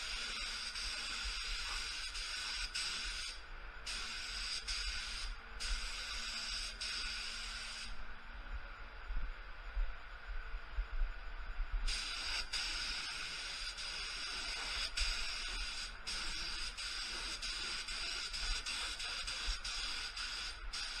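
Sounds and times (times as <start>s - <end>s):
air spray gun hissing: 0.0s - 8.0s, 11.9s - 21.0s.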